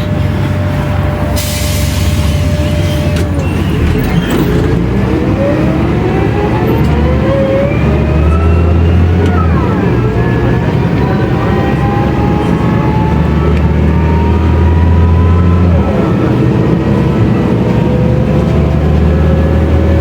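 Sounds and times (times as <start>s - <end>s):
bus engine accelerating: 0.0s - 20.0s.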